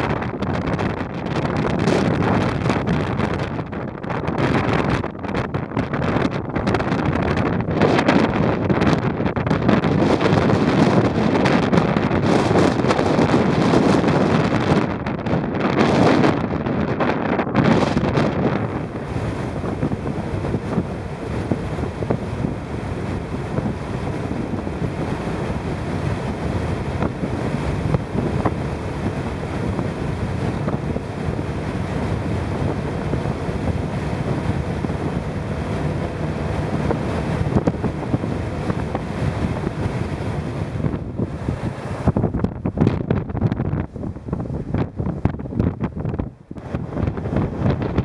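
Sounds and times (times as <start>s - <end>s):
gusty wind buffeting microphone: 0.0s - 48.0s.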